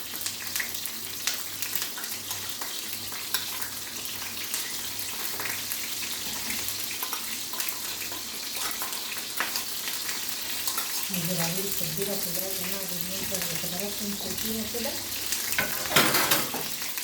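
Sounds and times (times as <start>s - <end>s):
peppers sizzling in hot oil: 0.0s - 17.0s.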